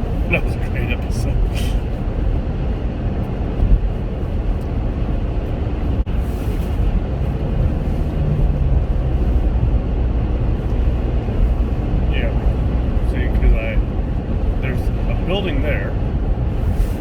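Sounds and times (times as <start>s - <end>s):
road and engine rumble in car: 0.0s - 17.0s.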